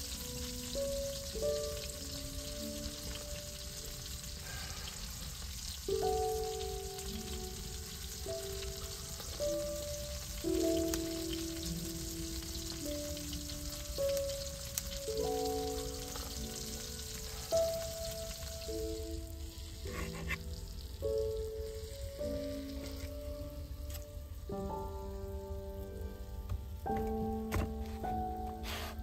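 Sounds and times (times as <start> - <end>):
food sizzling in a frying pan: 0.0 - 26.1
slow background music: 0.0 - 29.0.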